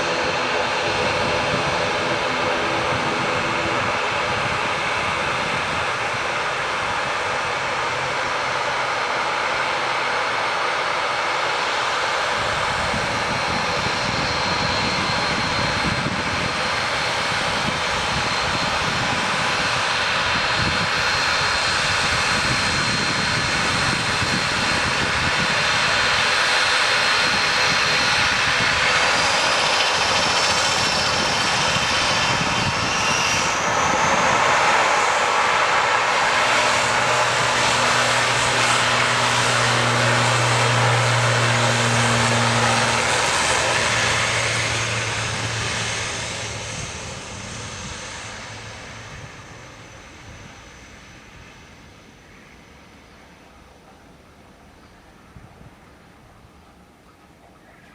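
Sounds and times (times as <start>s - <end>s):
airliner engines running: 0.0s - 57.9s.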